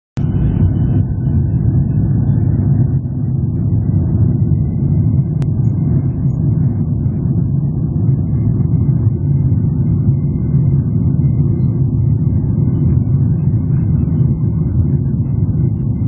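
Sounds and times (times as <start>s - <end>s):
jet engine and runway rumble: 0.2s - 16.0s.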